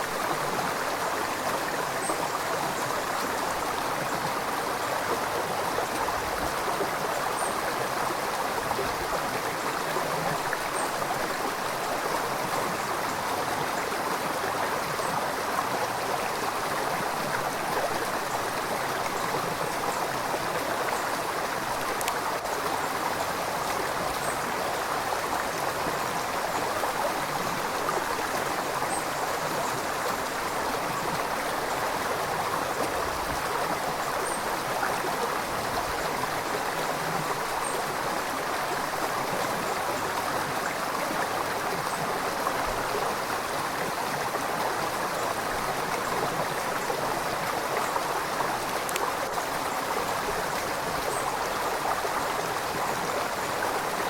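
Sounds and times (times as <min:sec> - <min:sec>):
river water rushing over rocks: 0:00.0 - 0:54.0.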